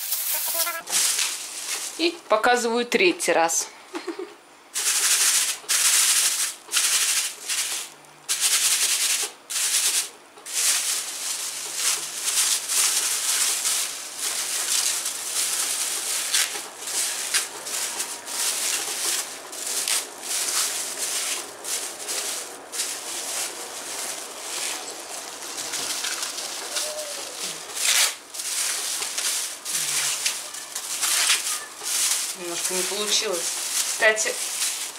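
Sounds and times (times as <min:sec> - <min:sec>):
plastic bag crinkling: 0:00.0 - 0:02.4, 0:04.8 - 0:34.9.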